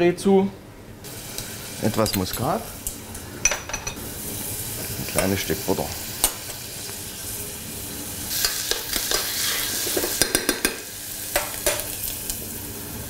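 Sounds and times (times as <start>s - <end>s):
onions sizzling in oil: 1.0s - 13.0s.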